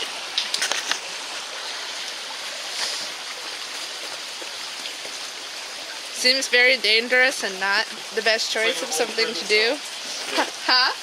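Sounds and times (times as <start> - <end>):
running water stream: 0.0 - 11.0.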